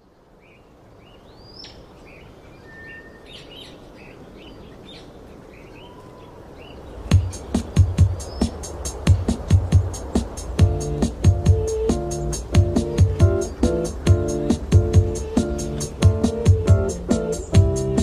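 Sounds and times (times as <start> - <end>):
birds chirping: 0.0 - 18.0
outdoor background noise: 0.0 - 18.0.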